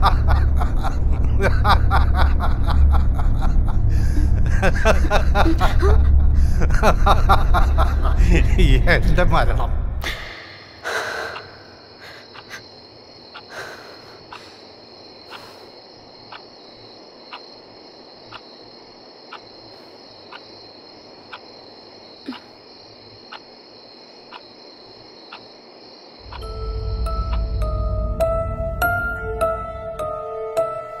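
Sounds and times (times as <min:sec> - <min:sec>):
crickets chirring: 0:00.0 - 0:31.0.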